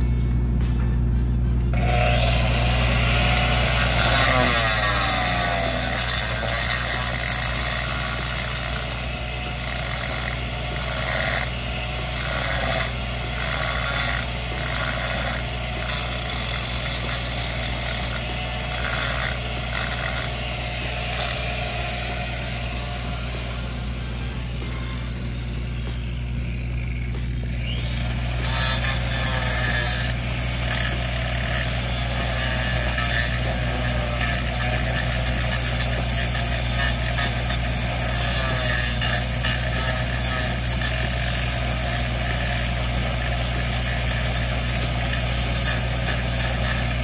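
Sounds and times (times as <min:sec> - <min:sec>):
welder engine drone: 0:00.0 - 0:47.0
welding arc crackling and hissing: 0:02.0 - 0:47.0.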